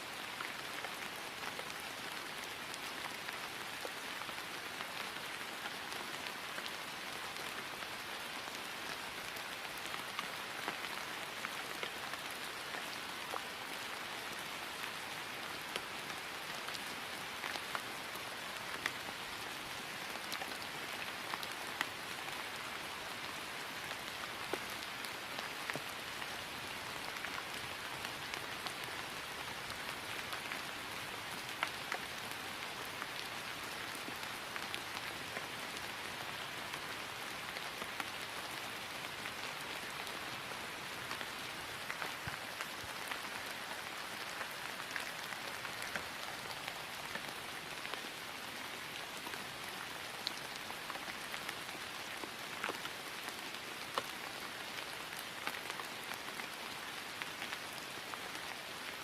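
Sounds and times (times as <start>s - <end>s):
rain falling on grass: 0.0s - 59.0s.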